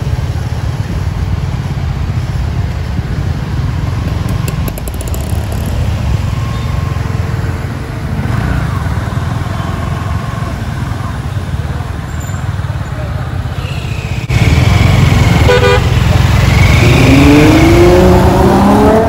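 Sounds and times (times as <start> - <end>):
scooter and motorcycle engines: 0.0 - 19.0.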